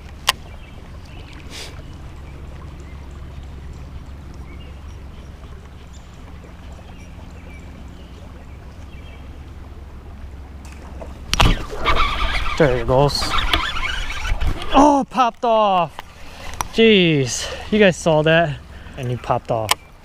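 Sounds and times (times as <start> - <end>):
flowing river water: 0.0 - 20.0.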